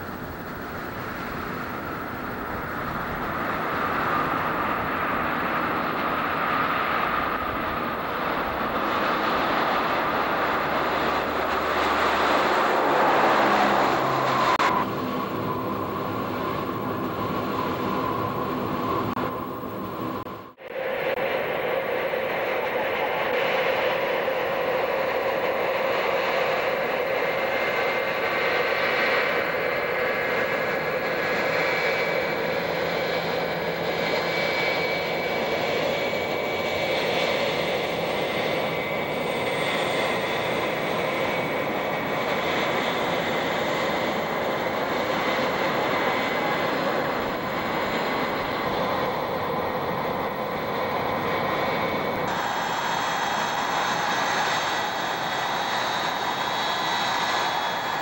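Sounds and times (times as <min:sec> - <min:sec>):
jet engines rushing and whining: 0:00.0 - 0:58.0.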